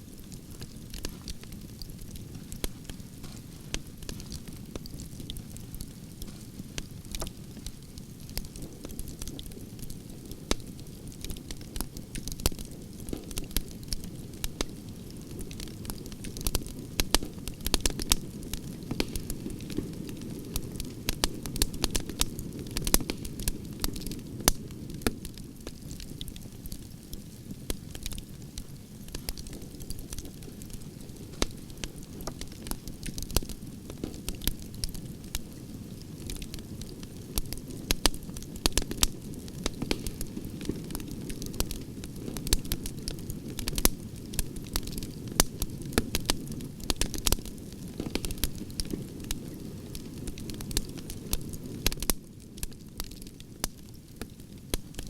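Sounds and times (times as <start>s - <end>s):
fire crackling and popping: 0.0s - 55.0s
campfire flames rushing: 0.1s - 55.0s.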